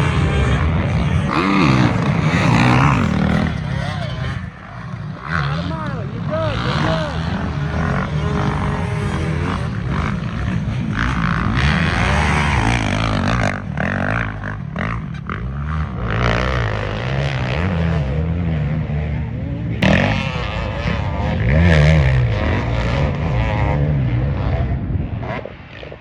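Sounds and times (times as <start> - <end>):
off-road race engines revving: 0.0 - 26.0.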